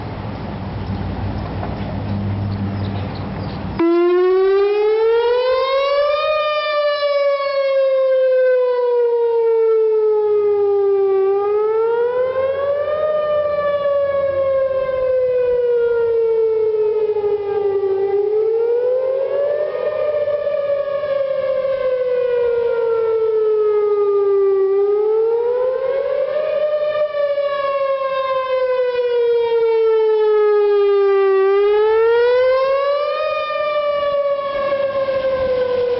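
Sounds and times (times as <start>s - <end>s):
warning siren wailing: 3.7s - 35.9s.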